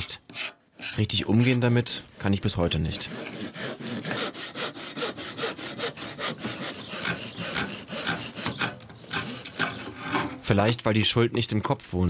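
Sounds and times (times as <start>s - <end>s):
hand tool scraping wood: 0.0s - 10.8s.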